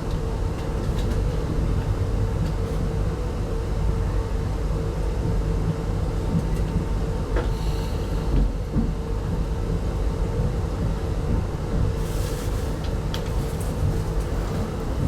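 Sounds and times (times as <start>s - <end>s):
train rumbling on the line: 0.0s - 15.0s.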